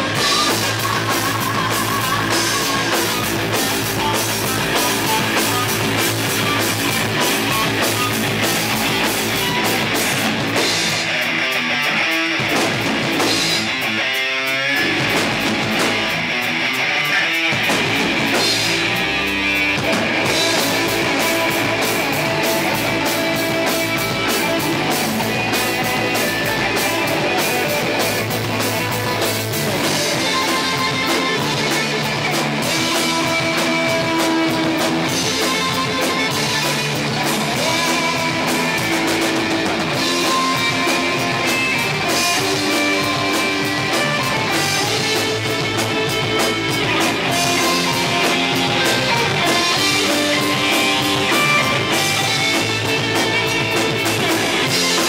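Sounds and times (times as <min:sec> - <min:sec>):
drum kit with cymbal hits: 0:00.0 - 0:55.0
electric guitars: 0:00.0 - 0:55.0.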